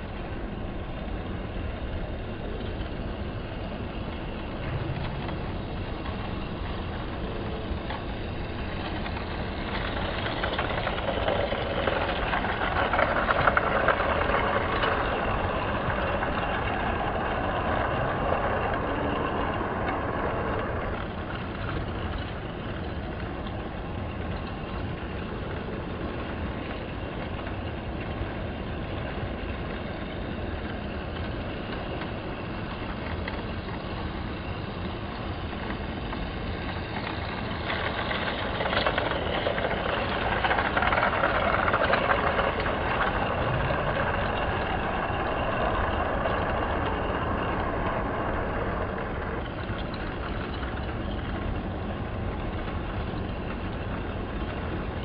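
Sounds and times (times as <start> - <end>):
toy train motor hum and clatter: 0.0 - 55.0.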